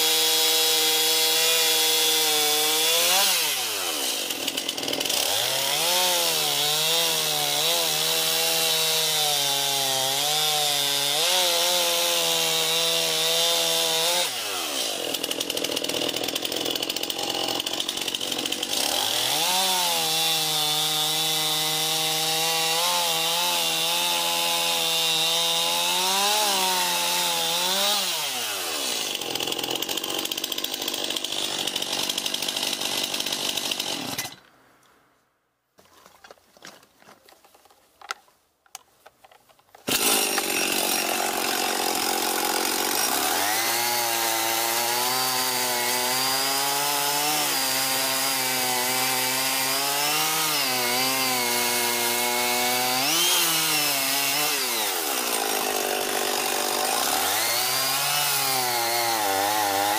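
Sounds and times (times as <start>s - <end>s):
chainsaw cutting log: 0.0s - 34.7s, 39.8s - 59.9s
chainsaw starting and revving: 0.0s - 34.7s, 39.8s - 59.9s.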